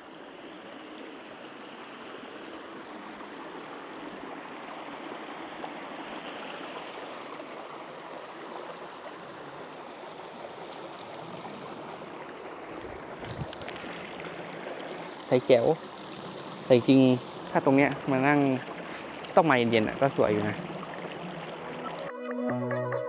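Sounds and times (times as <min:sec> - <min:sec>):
small waterfall rushing: 0:00.0 - 0:22.1.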